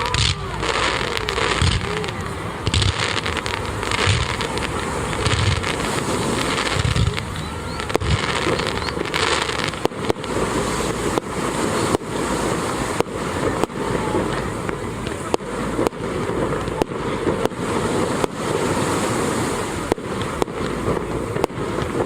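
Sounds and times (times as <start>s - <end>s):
fireworks deep booms: 0.0s - 22.0s
fireworks sharp cracks: 0.0s - 22.0s.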